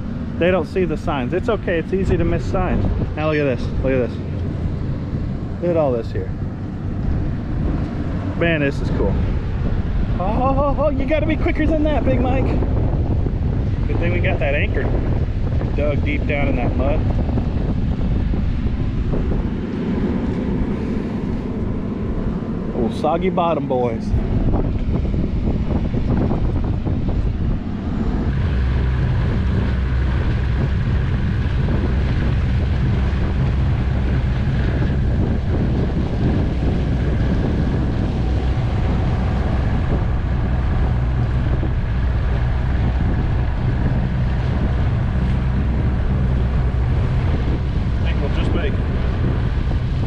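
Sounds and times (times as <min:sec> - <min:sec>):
outboard motor running: 0:00.0 - 0:50.0
wind buffeting microphone: 0:00.0 - 0:50.0.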